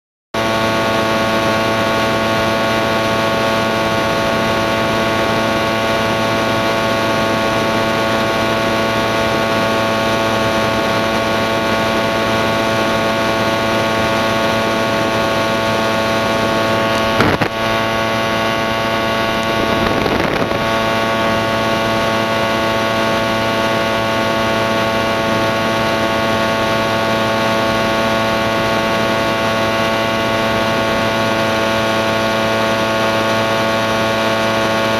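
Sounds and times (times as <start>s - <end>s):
small two-stroke engine droning: 0.4s - 34.9s.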